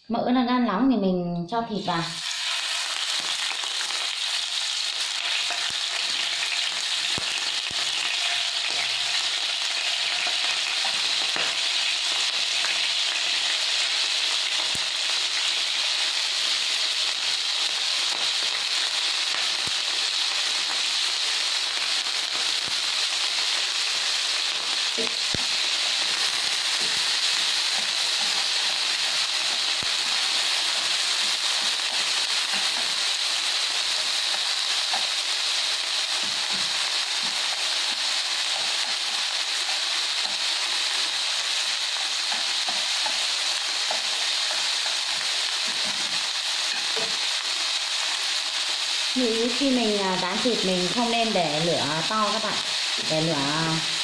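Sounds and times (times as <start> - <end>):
meat sizzling in frying pan: 1.8 - 54.0.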